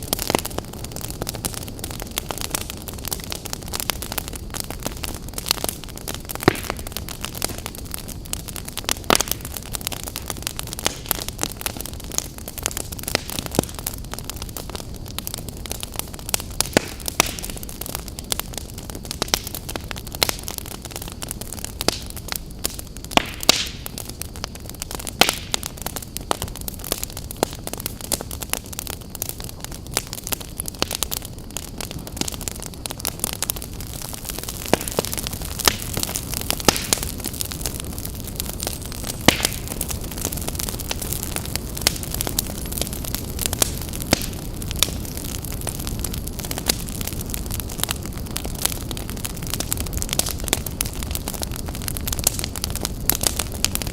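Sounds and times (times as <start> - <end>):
fire crackling and popping: 0.0 - 53.9
rush of campfire flames: 0.0 - 53.9.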